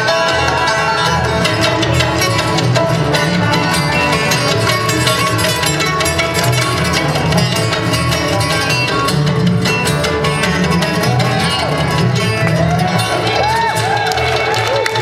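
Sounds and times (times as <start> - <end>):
acoustic guitar picking: 0.0 - 13.3
banjo picking: 0.0 - 15.0
mandolin picking: 0.0 - 15.0
upright bass: 0.0 - 15.0.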